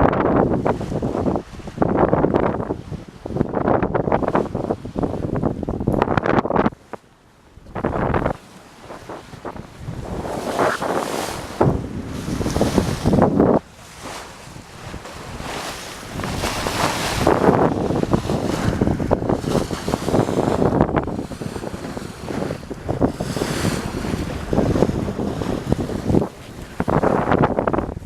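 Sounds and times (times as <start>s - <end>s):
water rushing along hull: 0.0s - 28.0s
wind buffeting microphone: 0.0s - 28.0s.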